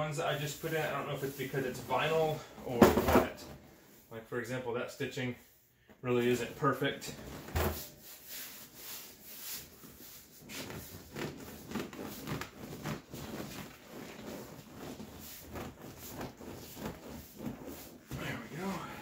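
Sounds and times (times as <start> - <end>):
vinyl scuffs and rustles: 0.2 - 3.9, 7.1 - 19.0.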